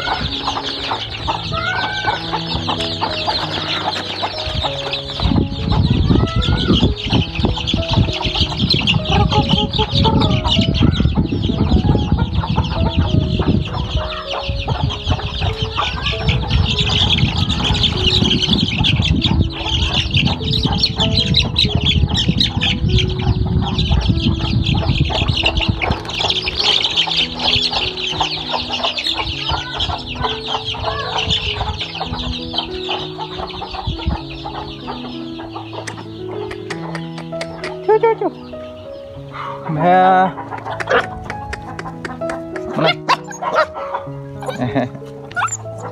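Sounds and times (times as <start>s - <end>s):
chicks peeping and clucking: 0.0s - 45.9s.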